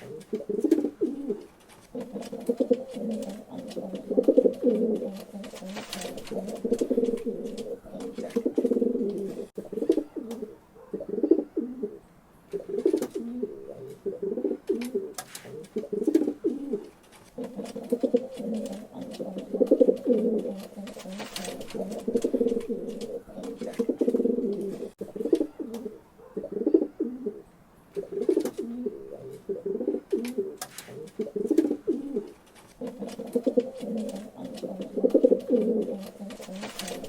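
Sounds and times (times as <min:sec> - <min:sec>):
pigeons cooing: 0:00.0 - 0:27.4, 0:28.0 - 0:37.0.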